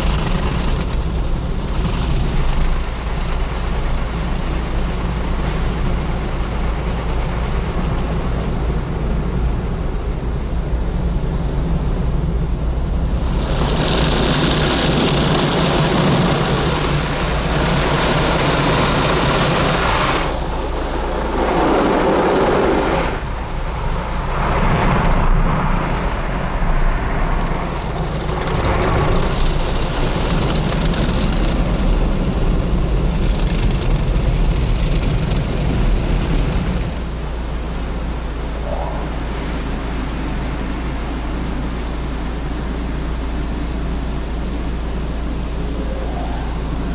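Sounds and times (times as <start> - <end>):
machinery low hum: 0.0 - 46.9.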